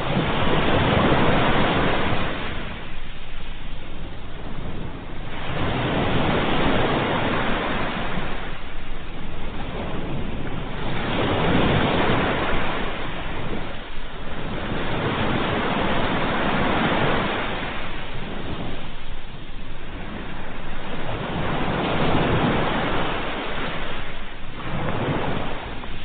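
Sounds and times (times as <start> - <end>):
ocean waves rushing: 0.0 - 26.0.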